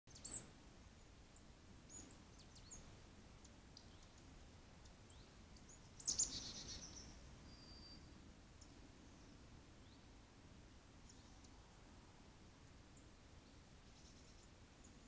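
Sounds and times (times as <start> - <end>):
small birds chirping: 0.1 - 10.3, 10.9 - 15.0.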